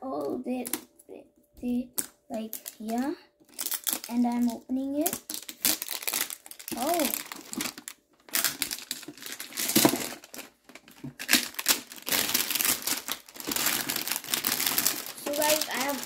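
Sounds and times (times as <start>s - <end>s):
plastic shrink wrap crinkling: 1.6s - 16.0s.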